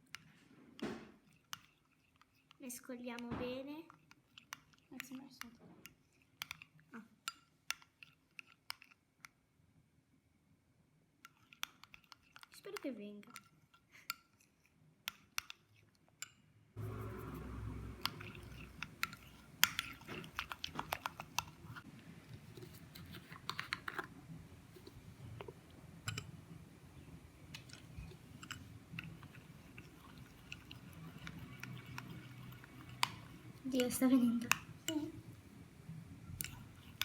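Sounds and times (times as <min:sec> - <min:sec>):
slime stirring rustle: 0:01.2 - 0:09.2, 0:11.2 - 0:15.9, 0:16.8 - 0:35.5, 0:36.2 - 0:37.0.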